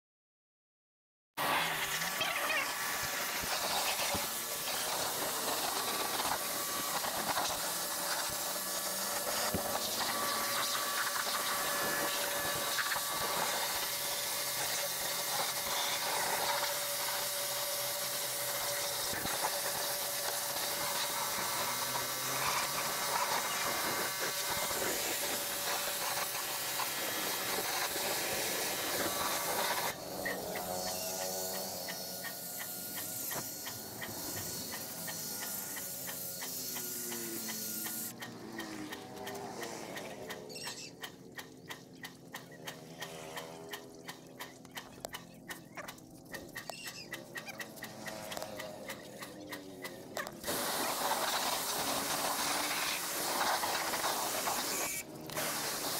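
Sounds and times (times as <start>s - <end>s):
pressure washer spraying water: 1.4s - 40.8s, 46.0s - 55.9s
machine humming: 1.8s - 55.9s.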